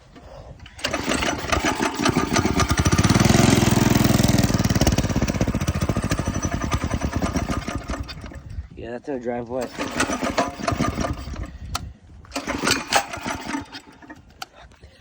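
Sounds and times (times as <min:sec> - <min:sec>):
small engine running: 0:00.7 - 0:08.6, 0:09.6 - 0:14.4.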